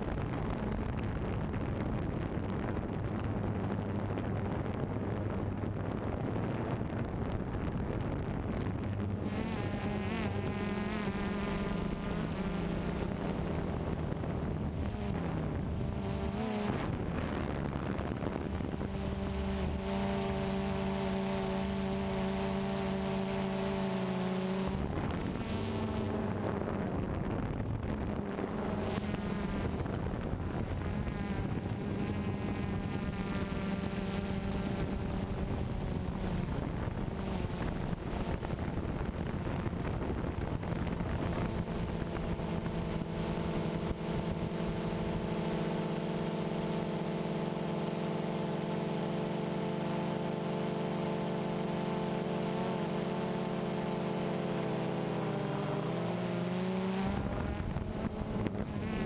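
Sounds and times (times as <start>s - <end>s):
drone propellers buzzing: 0.0s - 59.0s.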